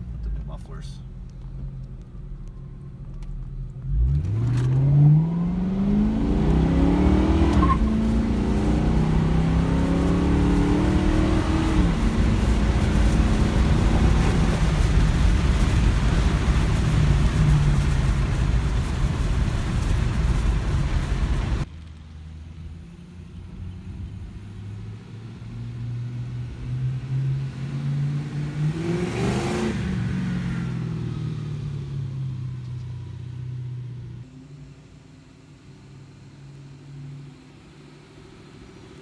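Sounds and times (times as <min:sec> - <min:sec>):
road noise: 0:00.0 - 0:39.0
car engine accelerating: 0:01.1 - 0:39.0.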